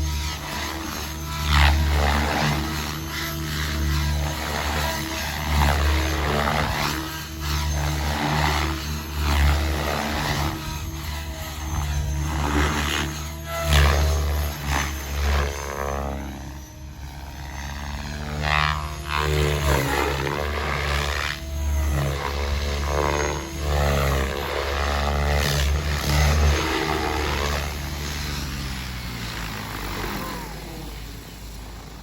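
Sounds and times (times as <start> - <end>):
rc helicopter rotor whine and chop: 0.0 - 32.0.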